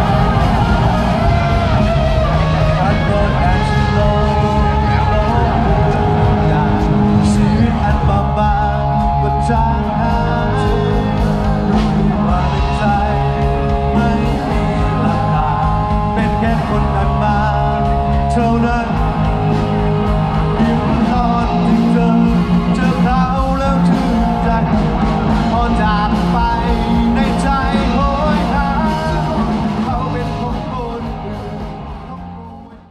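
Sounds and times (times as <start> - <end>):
rock music with singing and guitar: 0.0 - 32.9.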